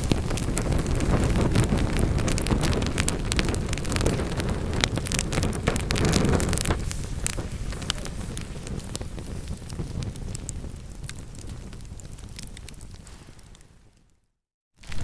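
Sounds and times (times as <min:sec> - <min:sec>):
low rush of flames: 0:00.0 - 0:14.1
logs crackling and popping: 0:00.0 - 0:14.2, 0:14.8 - 0:15.0.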